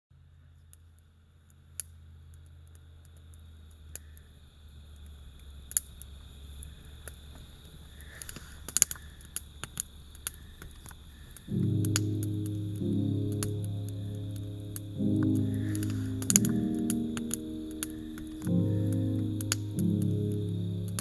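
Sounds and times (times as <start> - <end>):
faint low hum: 0.1 - 21.0
campfire crackling and popping: 1.5 - 21.0.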